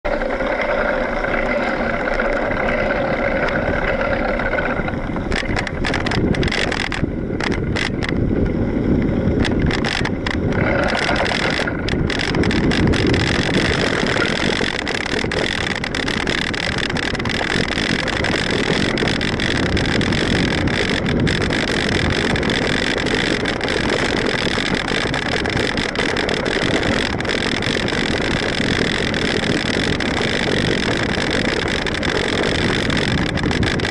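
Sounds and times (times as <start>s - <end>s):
tyres rumbling on dirt: 0.0s - 33.9s
bike clicks and rattles: 0.1s - 33.9s
wind on microphone: 0.1s - 33.9s.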